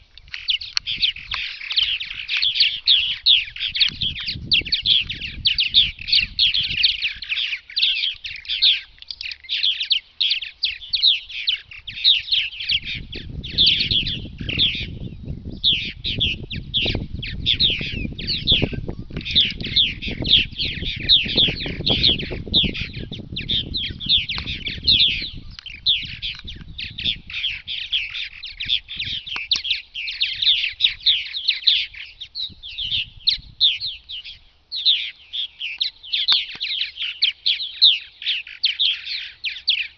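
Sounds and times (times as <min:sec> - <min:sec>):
birds chattering and chirping: 0:00.0 - 0:39.9.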